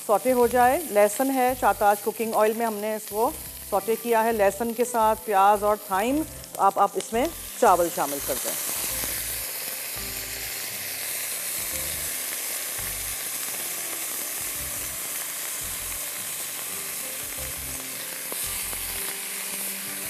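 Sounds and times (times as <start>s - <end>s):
rice sizzling in hot oil: 0.0s - 20.0s.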